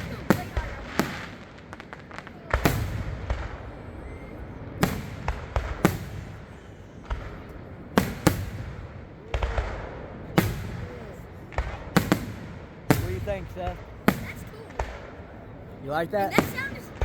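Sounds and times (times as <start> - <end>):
fireworks bursting with echo: 0.0 - 17.0.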